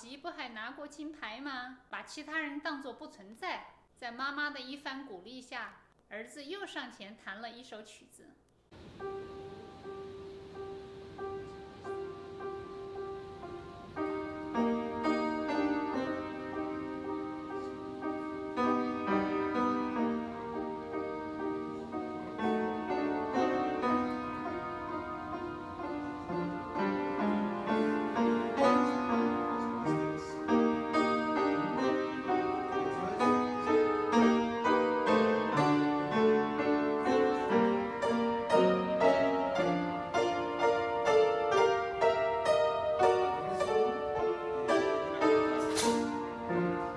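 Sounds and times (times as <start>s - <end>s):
upright piano playing: 8.8s - 46.9s.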